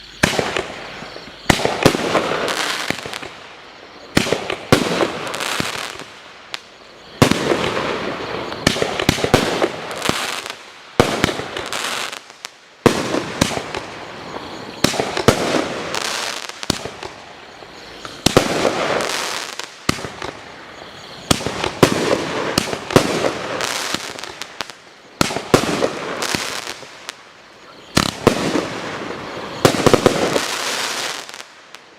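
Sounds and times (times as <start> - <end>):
firework bangs: 0.1 - 3.4, 4.0 - 27.2, 27.8 - 31.7
hissing crackling firework bursts: 0.1 - 31.9.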